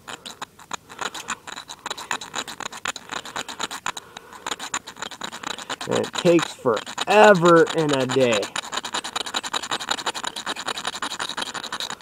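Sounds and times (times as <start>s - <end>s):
steel striker scraping magnesium block: 0.0s - 12.0s.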